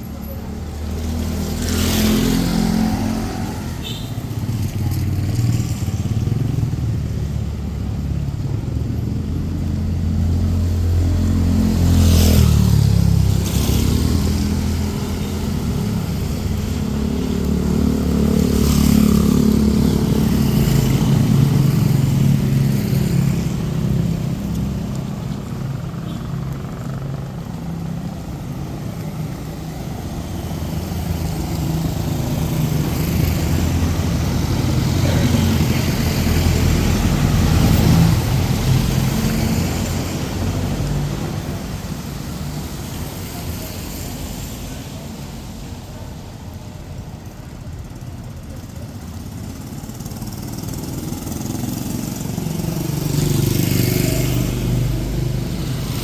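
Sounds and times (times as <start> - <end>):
car engines passing: 0.0 - 56.0
motorcycle engines passing: 0.0 - 56.0.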